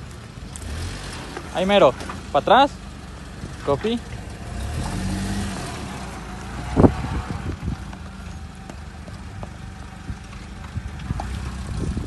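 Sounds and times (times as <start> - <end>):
engine running low: 0.0 - 12.0.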